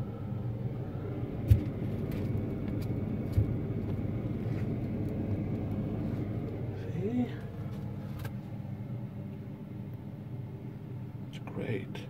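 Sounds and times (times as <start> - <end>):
fridge freezer humming: 0.0 - 12.0.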